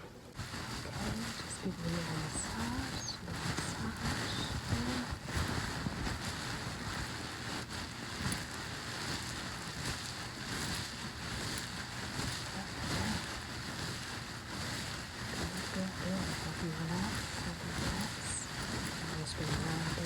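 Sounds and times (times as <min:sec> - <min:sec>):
hands rubbing oiled hair: 0:00.4 - 0:20.0.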